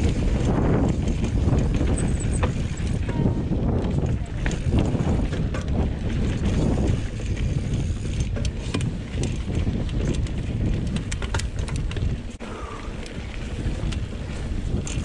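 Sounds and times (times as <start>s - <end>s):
bike clicks and rattles: 0.0s - 15.0s
rumble of bike tyres: 0.0s - 15.0s
wind buffeting microphone: 0.0s - 15.0s.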